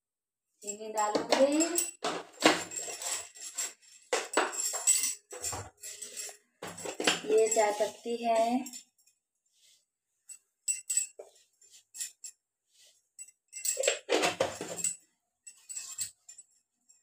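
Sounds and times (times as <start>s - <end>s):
utensils and bangles clinking: 0.7s - 17.0s.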